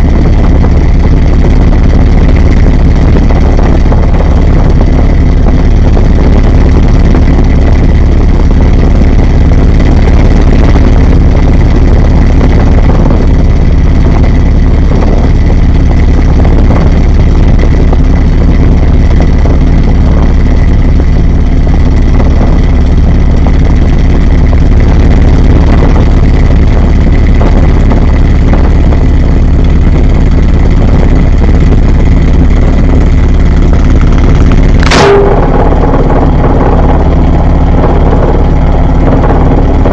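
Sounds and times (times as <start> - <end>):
washing machine rumbling: 0.0 - 39.9.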